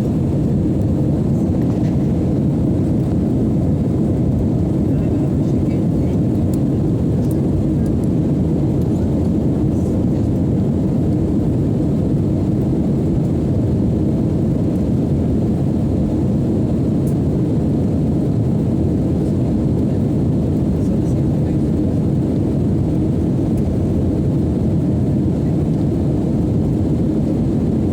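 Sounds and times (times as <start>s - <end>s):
jet engines droning: 0.0s - 27.9s.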